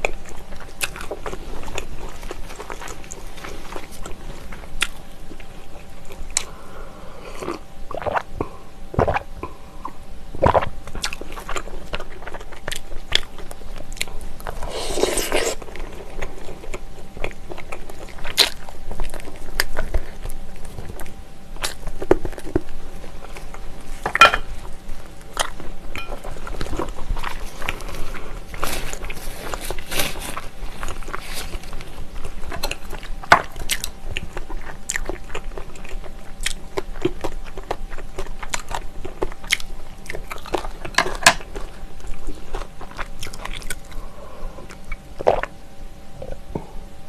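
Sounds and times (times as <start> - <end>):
close chewing and biting: 0.0 - 6.6, 9.0 - 45.6.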